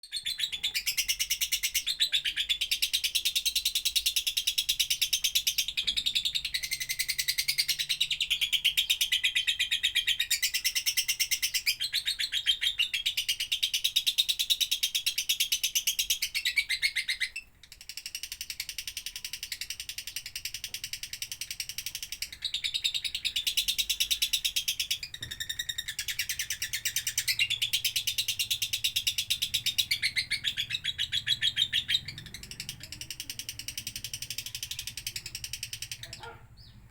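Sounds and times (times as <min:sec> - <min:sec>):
lovebird chattering song: 0:00.1 - 0:36.9.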